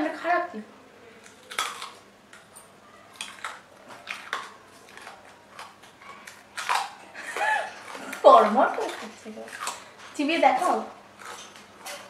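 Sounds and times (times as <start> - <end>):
crunchy vegetable being chewed: 1.2 - 12.0.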